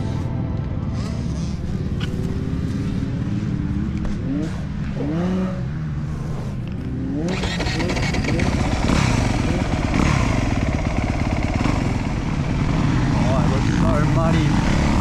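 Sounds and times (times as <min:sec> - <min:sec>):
motocross bike engine revving: 0:01.0 - 0:15.0.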